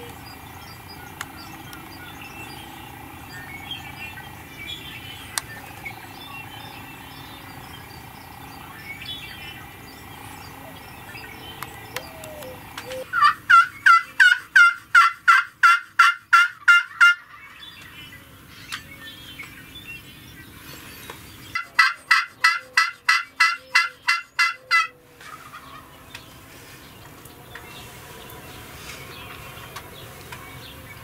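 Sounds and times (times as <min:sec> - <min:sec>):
wild turkey calling: 0:00.0 - 0:18.7, 0:21.5 - 0:28.0.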